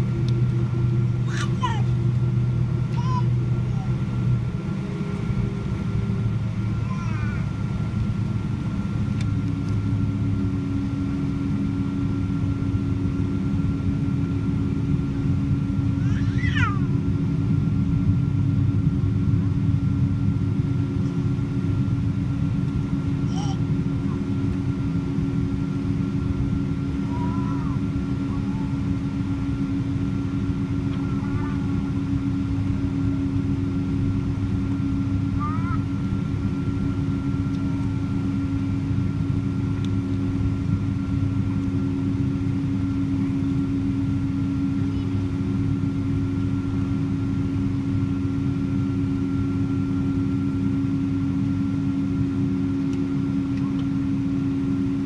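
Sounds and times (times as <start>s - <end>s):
constant cabin hum: 0.0s - 55.0s
jet engines rumbling: 0.0s - 55.0s.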